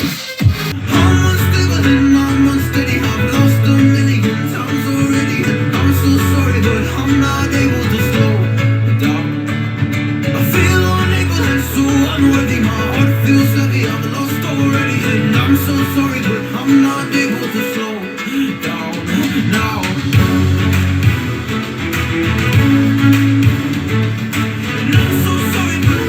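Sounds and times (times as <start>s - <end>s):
guitar song with strong bass: 0.6s - 26.0s.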